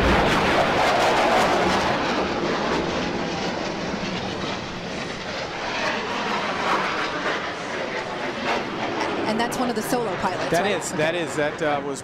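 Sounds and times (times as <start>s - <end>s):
jet passing low overhead: 0.0s - 12.0s.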